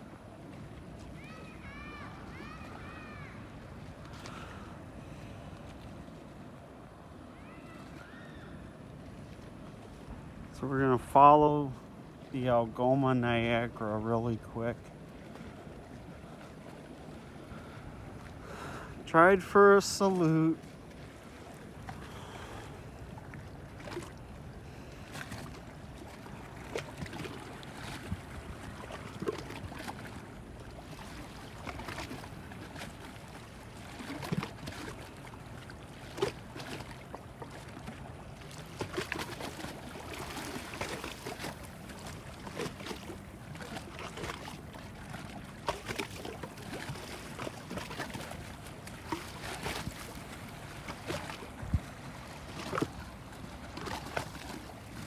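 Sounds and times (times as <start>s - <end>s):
ship engine low rumble: 0.0s - 55.0s
water sounds: 0.0s - 55.0s.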